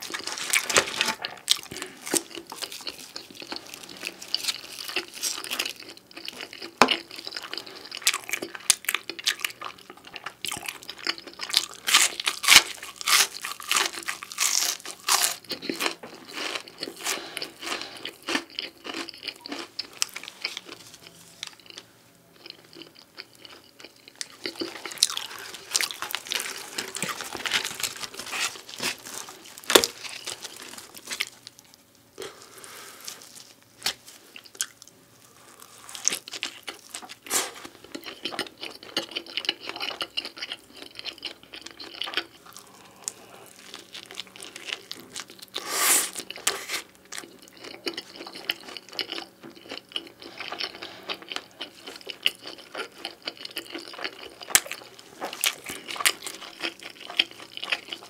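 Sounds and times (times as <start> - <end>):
chewing and crunching pizza: 0.0 - 58.0.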